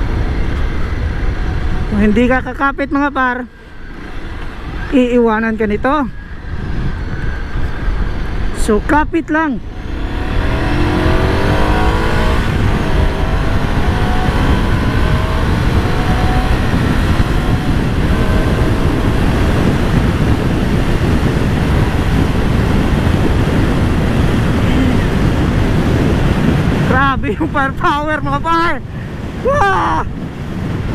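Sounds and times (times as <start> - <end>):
motorcycle engine accelerating: 0.0 - 28.1
wind rush on microphone: 0.0 - 30.9.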